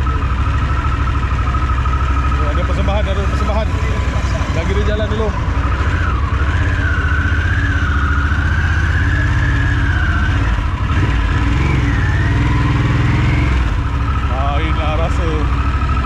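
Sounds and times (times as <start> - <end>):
motorcycle engine pulling off: 0.0 - 16.0.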